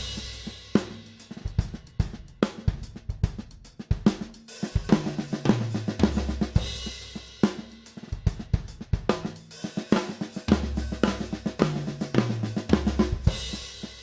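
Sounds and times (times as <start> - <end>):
drum kit playing: 0.0 - 14.0.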